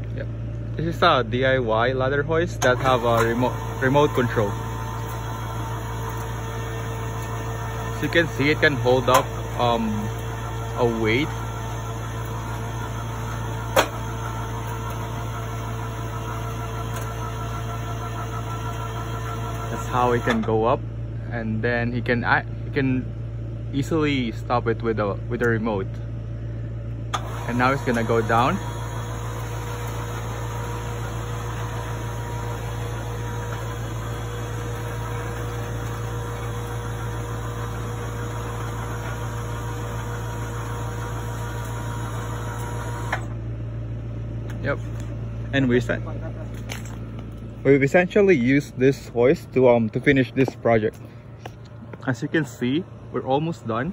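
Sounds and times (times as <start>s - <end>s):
winch motor running: 0.0s - 20.8s, 23.8s - 53.9s.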